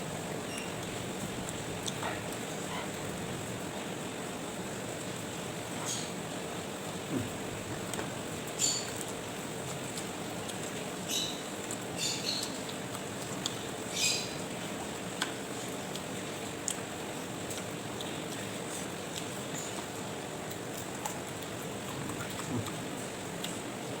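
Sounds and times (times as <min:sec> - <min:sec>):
chewing with mouth clicks: 0:00.4 - 0:03.9, 0:04.9 - 0:23.9.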